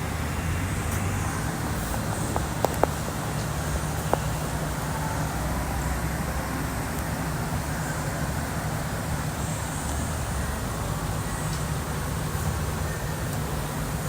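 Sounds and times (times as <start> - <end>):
low motor rumble: 0.0 - 14.0.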